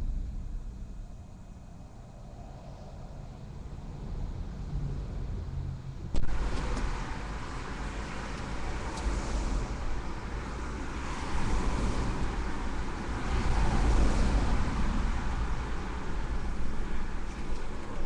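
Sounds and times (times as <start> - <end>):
vehicle deep rumble: 0.0 - 18.0.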